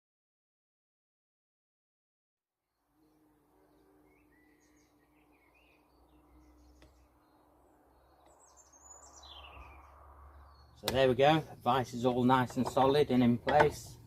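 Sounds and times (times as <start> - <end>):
faint birdsong chirps: 2.6 - 14.0.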